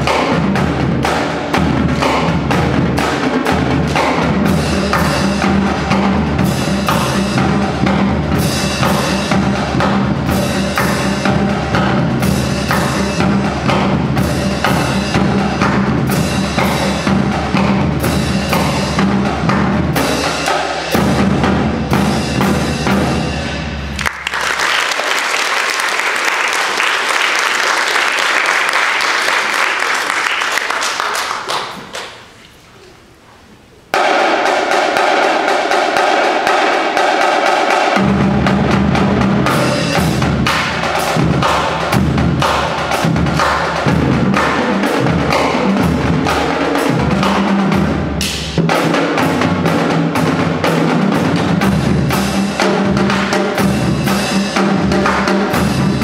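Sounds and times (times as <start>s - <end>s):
marching bass drums: 0.0s - 24.0s, 34.0s - 56.0s
snare and tenor drums: 0.0s - 24.1s, 33.9s - 56.0s.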